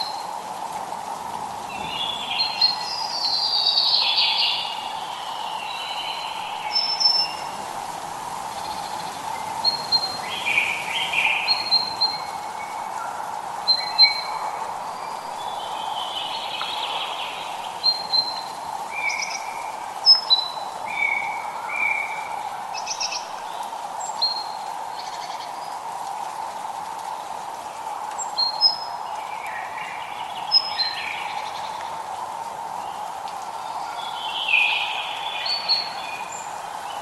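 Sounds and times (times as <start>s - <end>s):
light rain hiss: 0.0s - 37.0s
birds singing and calling: 1.7s - 7.6s, 8.4s - 25.8s, 27.8s - 32.1s, 32.7s - 37.0s.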